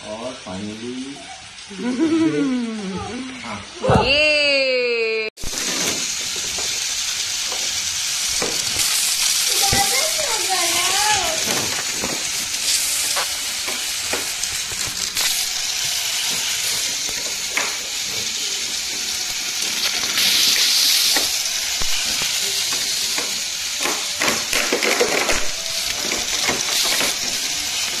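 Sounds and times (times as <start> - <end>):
toy train rattling hiss: 0.0 - 3.8, 5.4 - 28.0
toy train clicks: 5.5 - 28.0.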